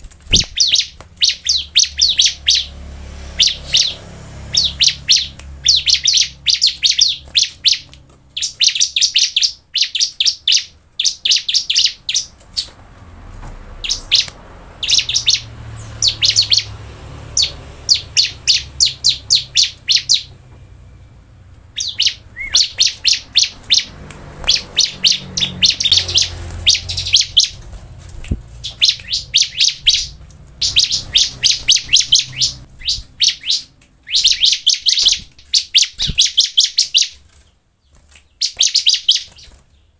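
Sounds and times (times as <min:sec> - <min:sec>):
bird singing fast high notes: 0:00.3 - 0:12.7, 0:13.8 - 0:27.6, 0:28.5 - 0:37.2.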